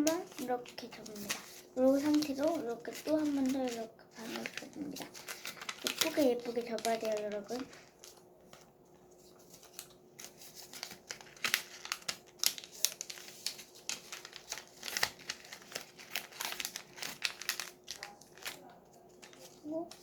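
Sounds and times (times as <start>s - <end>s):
paper being folded and creased: 0.0s - 20.0s.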